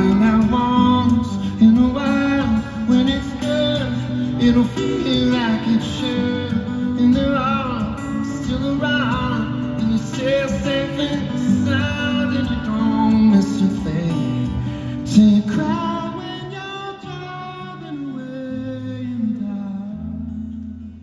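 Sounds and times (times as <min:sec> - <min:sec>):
acoustic guitar: 0:00.0 - 0:21.0
person singing: 0:00.0 - 0:21.0.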